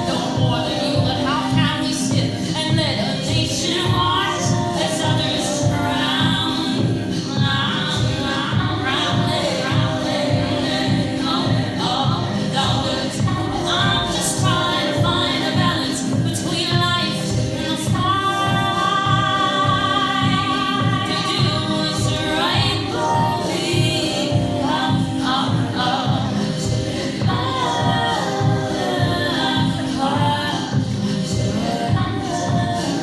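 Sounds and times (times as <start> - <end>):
low beat: 0.0 - 33.0
voices singing: 0.0 - 33.0.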